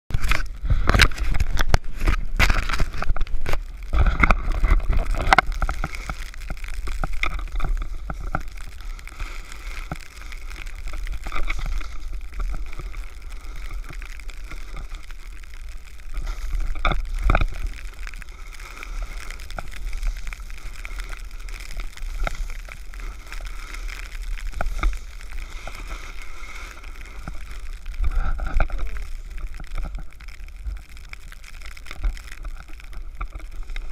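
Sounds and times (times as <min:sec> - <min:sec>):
wind rumble on microphone: 0:00.1 - 0:33.9
snowboard scraping over snow: 0:00.2 - 0:30.0.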